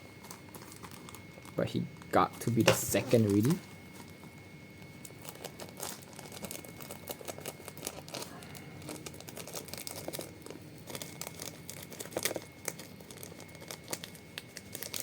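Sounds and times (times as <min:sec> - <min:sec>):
packaging crinkling and crackling: 0:00.1 - 0:15.0.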